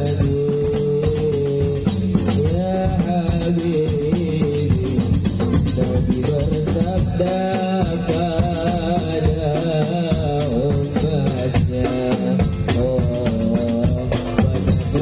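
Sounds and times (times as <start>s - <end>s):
bass drum steady rhythm: 0.0s - 15.0s
hand-struck frame drums: 0.0s - 15.0s
man singing through a microphone: 0.0s - 15.0s.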